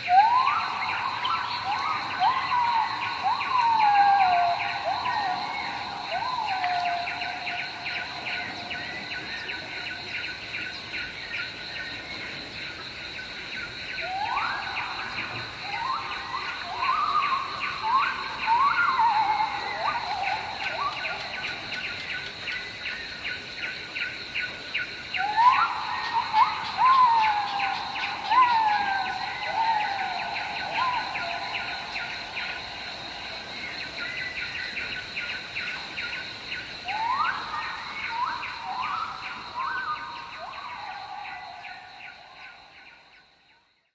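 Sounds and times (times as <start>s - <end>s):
loud whistled calls: 0.0s - 10.2s, 14.0s - 22.3s, 25.2s - 42.6s
insects droning: 0.0s - 43.9s
pulsing insect chorus: 0.0s - 43.9s.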